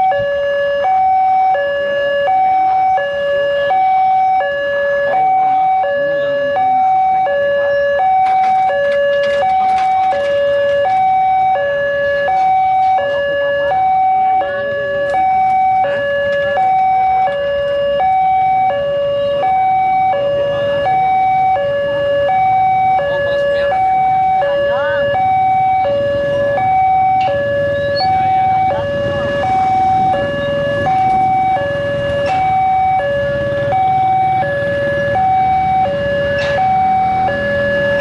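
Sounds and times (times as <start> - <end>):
two-tone crossing alarm: 0.0 - 38.0.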